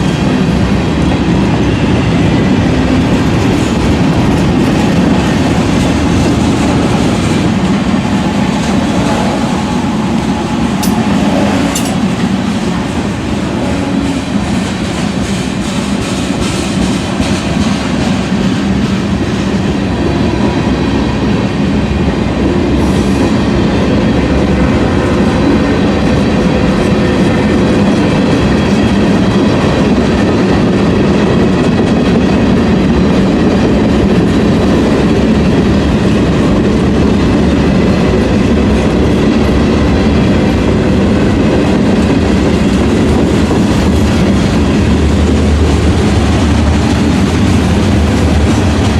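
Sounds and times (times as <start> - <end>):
freight train wheels rumbling on track: 0.0 - 48.9.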